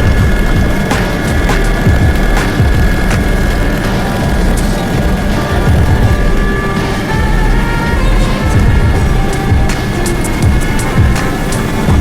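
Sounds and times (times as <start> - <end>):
background music with held notes: 0.0 - 12.0
steady low rumble: 0.0 - 12.0.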